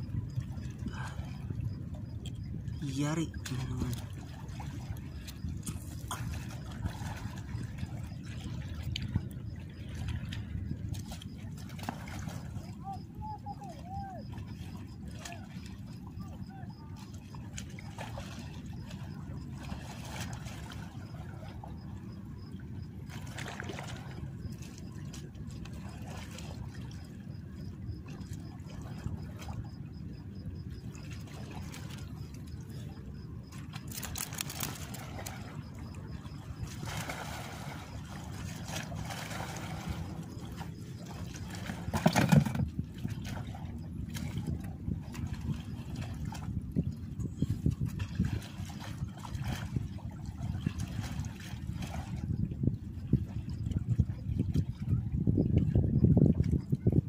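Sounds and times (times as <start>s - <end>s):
water sloshing at shoreline: 0.0s - 57.0s.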